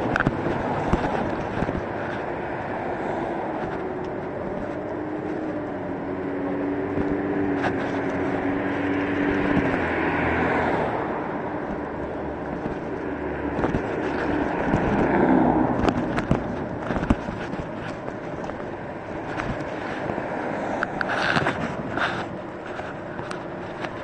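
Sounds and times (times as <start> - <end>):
traffic and road noise: 0.0 - 24.0.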